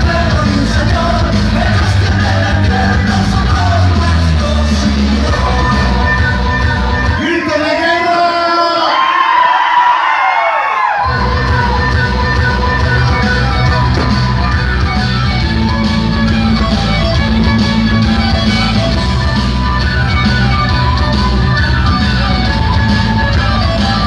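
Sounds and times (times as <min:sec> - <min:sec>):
loud music over sound system: 0:00.0 - 0:08.7, 0:11.0 - 0:24.0.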